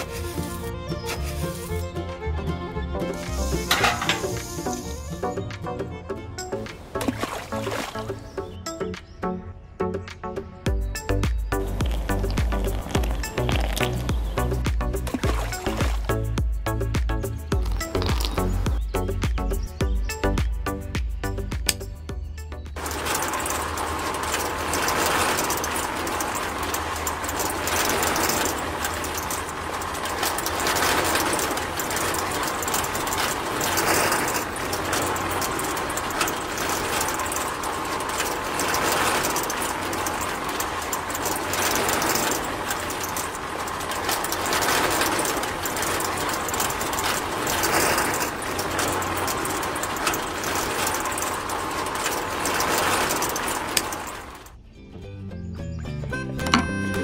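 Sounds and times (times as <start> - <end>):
toy motor whirring with gear rattle: 0.0 - 5.4, 10.9 - 20.4, 22.7 - 54.6.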